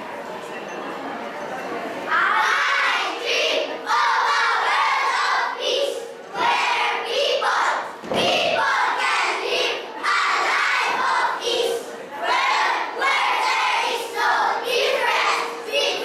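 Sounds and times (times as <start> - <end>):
children reciting in unison: 2.1 - 16.0.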